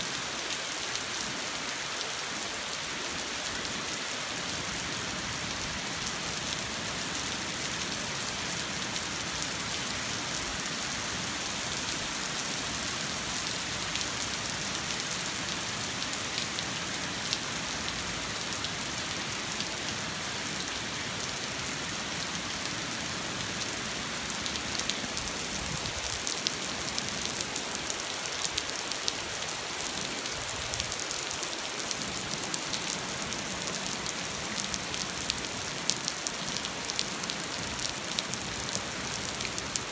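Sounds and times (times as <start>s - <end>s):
rain pattering on street: 2.1s - 39.9s.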